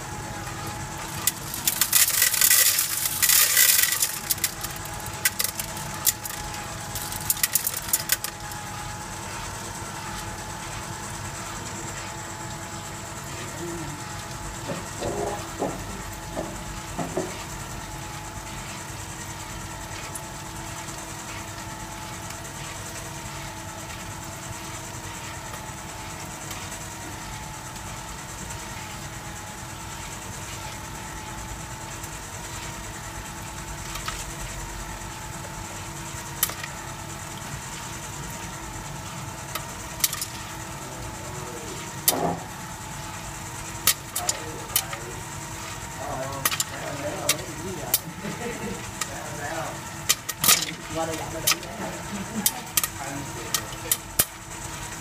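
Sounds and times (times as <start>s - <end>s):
machine motor hum and whine: 0.0s - 55.0s.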